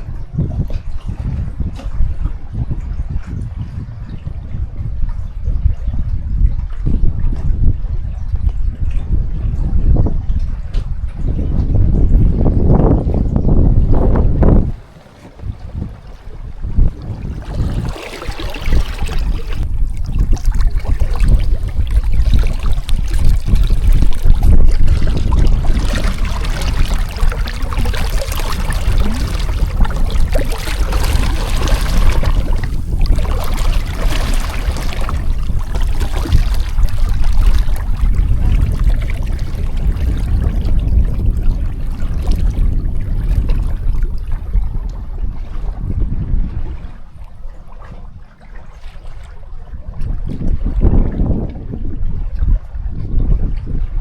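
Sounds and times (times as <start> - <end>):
water rushing along boat hull: 0.0 - 54.0
wind rumble on microphone: 0.0 - 54.0.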